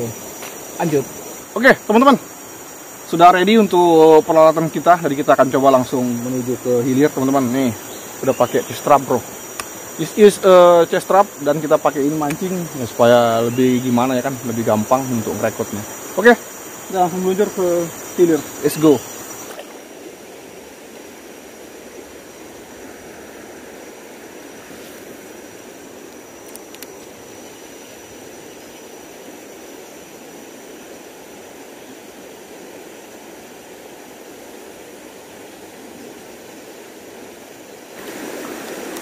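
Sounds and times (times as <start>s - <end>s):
river rushing over stones: 0.0s - 39.0s.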